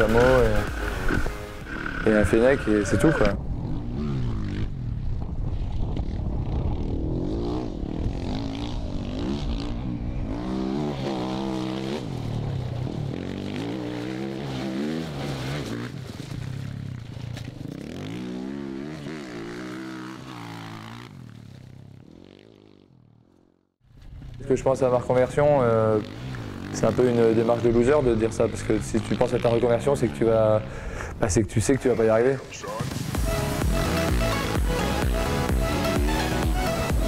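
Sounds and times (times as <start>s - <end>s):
dirt bike engine revving: 0.0s - 23.4s, 25.0s - 30.9s, 32.8s - 37.0s.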